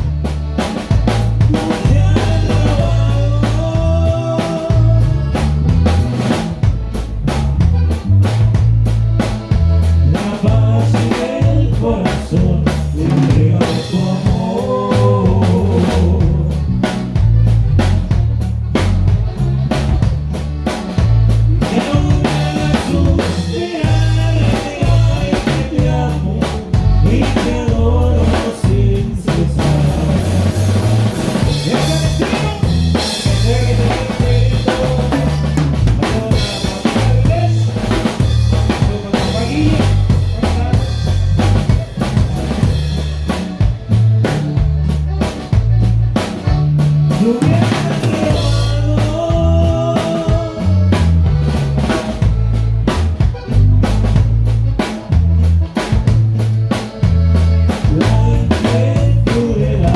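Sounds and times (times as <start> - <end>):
band melody: 0.0 - 59.9
bass line: 0.0 - 59.9
drum kit playing: 0.0 - 59.9.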